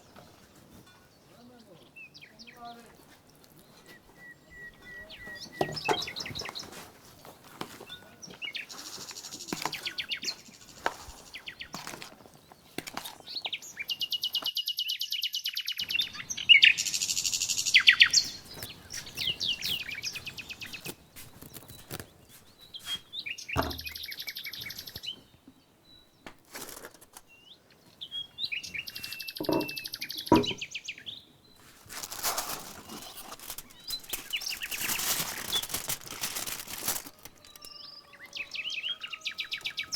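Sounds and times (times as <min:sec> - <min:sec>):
songbirds chirping trills: 0:00.0 - 0:39.9.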